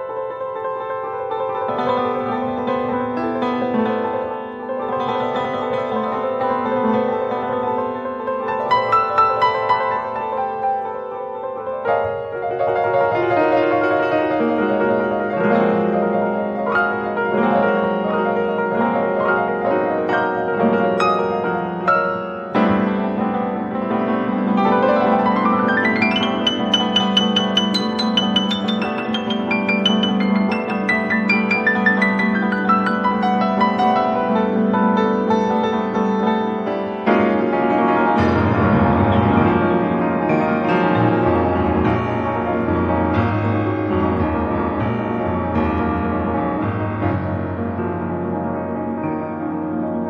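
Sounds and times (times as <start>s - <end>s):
grand piano playing: 0.0s - 50.0s.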